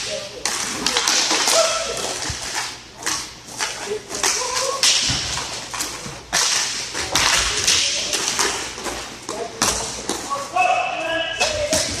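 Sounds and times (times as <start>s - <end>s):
hockey sticks clacking: 0.0s - 12.0s.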